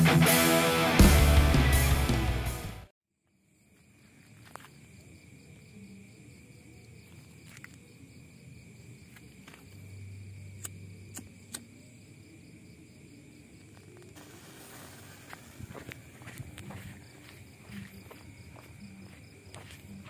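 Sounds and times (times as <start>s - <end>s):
crickets trilling: 3.2s - 20.0s.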